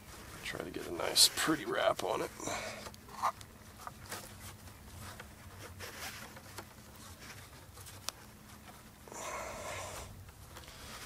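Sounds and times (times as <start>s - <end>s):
rope scraping on wood: 0.0s - 11.0s.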